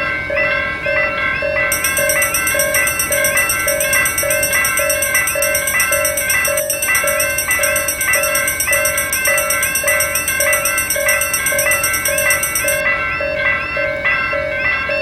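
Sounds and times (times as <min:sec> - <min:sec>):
level-crossing warning bells: 0:00.0 - 0:15.0
higher faster bell ringing: 0:01.7 - 0:14.2.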